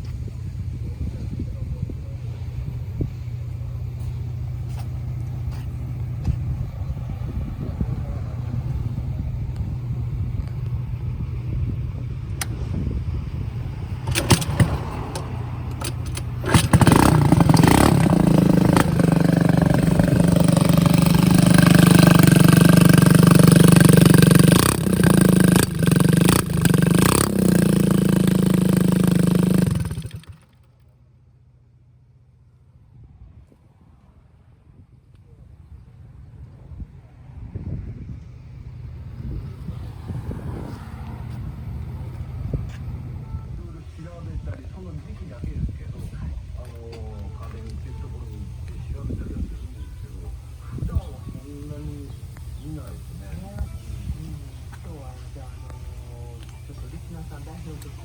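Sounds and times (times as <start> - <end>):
moped engine idling and revving: 0.0 - 30.7, 36.4 - 58.0.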